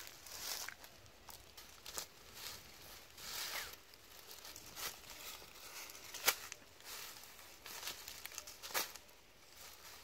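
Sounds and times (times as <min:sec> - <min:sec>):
leaves and netting rustling: 0:00.0 - 0:10.0.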